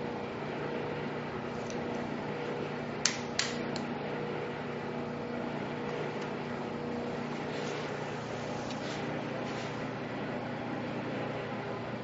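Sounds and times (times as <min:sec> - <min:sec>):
ventilation hum: 0:00.0 - 0:12.0.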